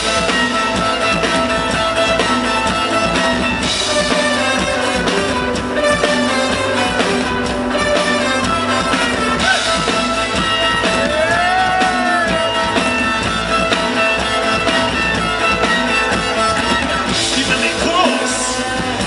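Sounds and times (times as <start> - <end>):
gliding melodic line: 0.0 - 19.0
rock band playing live: 0.0 - 19.0
steady drum beat: 0.0 - 19.0.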